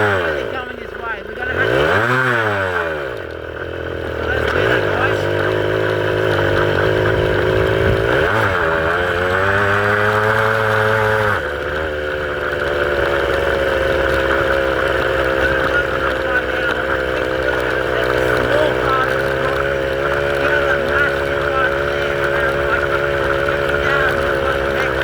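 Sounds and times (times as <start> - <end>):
motorbike engine running: 0.0 - 25.0.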